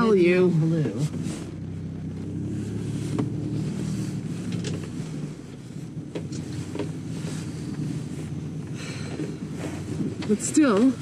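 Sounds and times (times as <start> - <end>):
vehicle engine low hum: 0.0 - 11.0.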